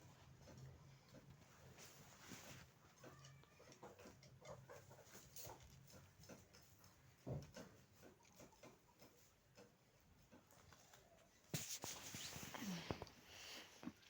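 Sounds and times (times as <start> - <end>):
faint clicks and taps: 0.0 - 13.2.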